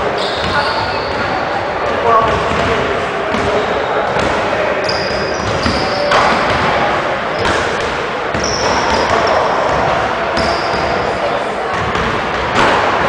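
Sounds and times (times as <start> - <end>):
echoing gym noise: 0.0 - 13.0.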